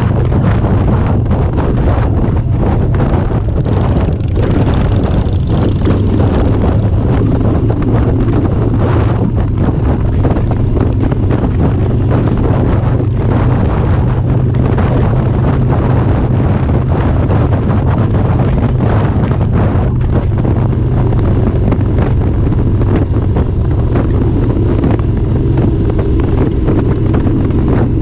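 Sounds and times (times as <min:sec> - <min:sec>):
motorcycle engine cruising: 0:00.0 - 0:28.0
wind buffeting the microphone: 0:00.0 - 0:28.0.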